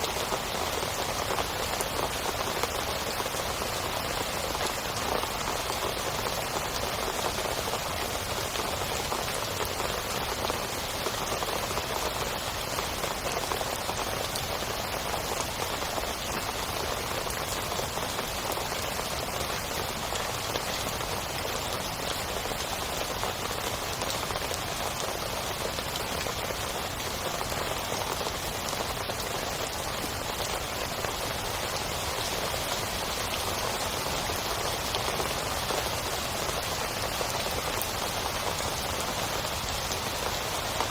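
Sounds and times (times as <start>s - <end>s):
heavy rain on a tent: 0.0s - 40.9s.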